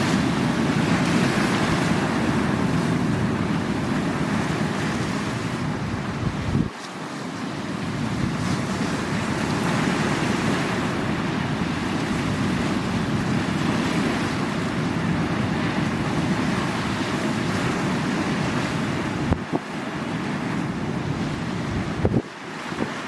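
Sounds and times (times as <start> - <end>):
wind buffeting microphone: 0.0 - 6.8, 7.6 - 23.0
sea waves washing on shore: 0.0 - 23.0.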